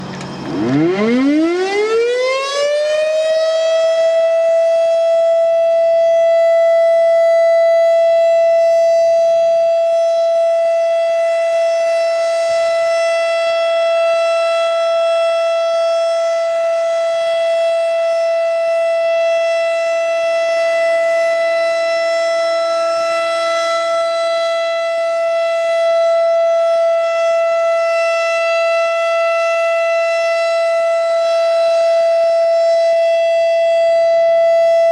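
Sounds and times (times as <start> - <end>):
civil defense siren winding up: 0.0 - 34.9.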